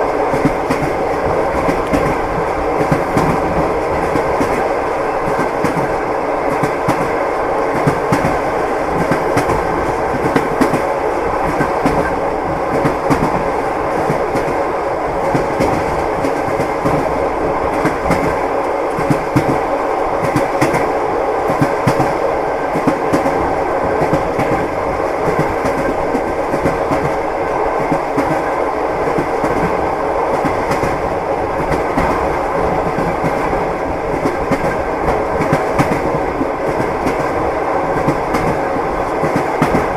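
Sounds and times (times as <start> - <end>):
train rumble: 0.0 - 39.9
train wheels clacking: 0.0 - 39.9.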